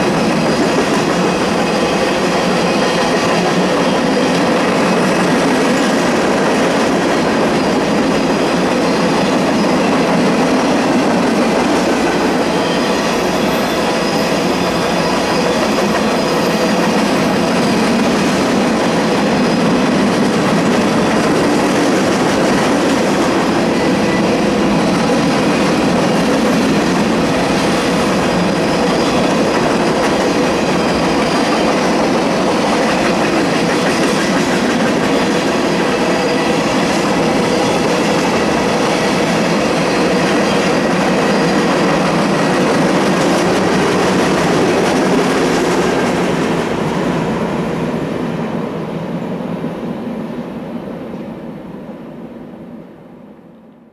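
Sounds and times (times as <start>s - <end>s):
train wheels rolling on rails: 0.0s - 53.4s.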